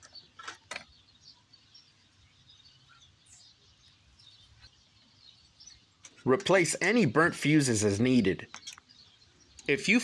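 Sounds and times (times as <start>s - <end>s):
high bird chirps: 0.0s - 10.0s.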